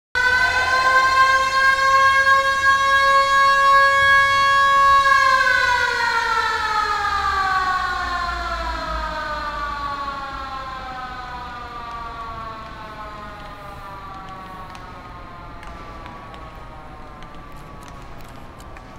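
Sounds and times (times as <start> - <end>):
siren winding down: 0.2 - 16.9.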